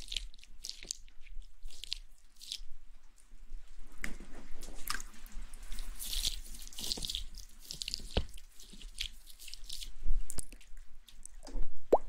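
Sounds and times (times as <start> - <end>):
soft wet clicks and crackles: 0.0 - 12.0.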